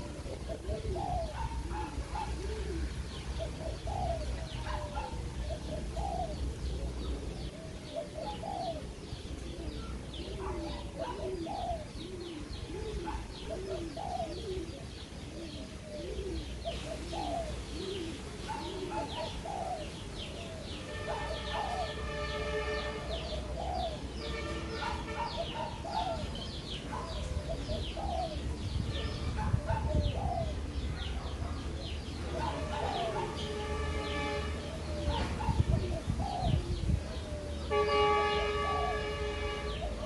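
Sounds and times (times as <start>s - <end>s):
dove cooing: 0.0s - 40.0s
small birds chirping: 0.0s - 40.0s.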